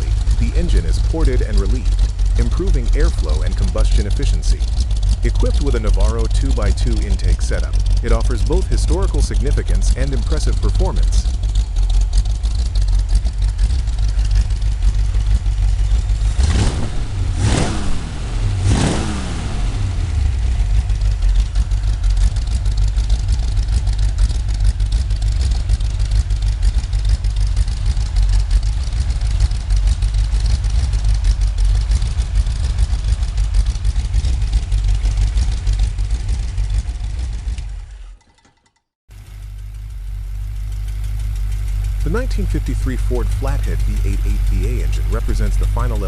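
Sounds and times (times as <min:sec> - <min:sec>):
car engine revving: 0:00.0 - 0:38.1, 0:39.2 - 0:46.0.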